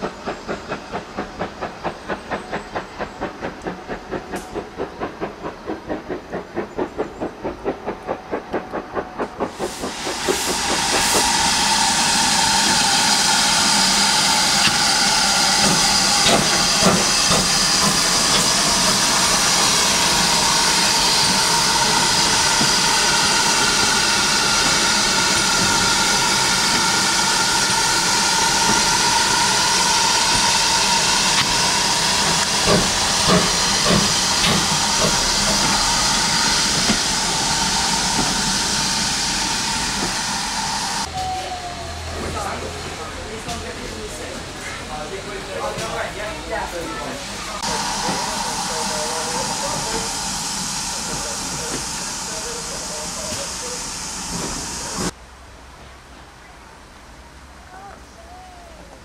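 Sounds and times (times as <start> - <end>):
steam blowing off hiss: 0.0 - 55.2
steam locomotive exhaust beats: 0.0 - 55.2.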